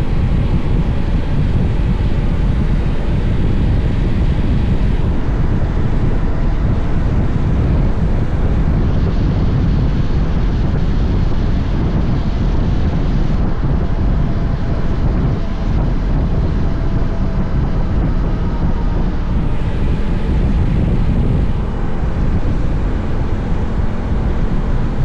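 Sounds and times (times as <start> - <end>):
motorcycle engine running: 0.0 - 25.0
wind rush over microphone: 0.0 - 25.0.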